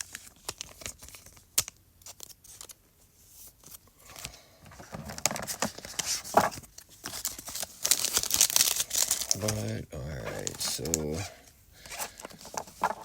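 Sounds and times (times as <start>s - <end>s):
foil wrappers crinkling: 0.0s - 2.8s, 4.1s - 13.0s.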